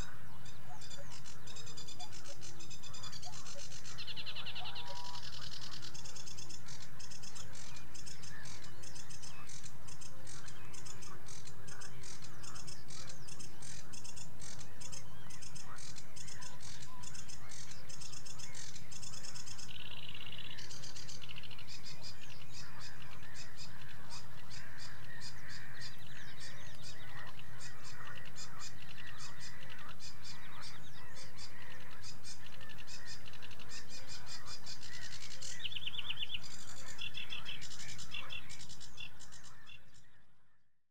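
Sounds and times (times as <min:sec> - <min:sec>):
warbler singing high chattering song: 0:00.0 - 0:40.3.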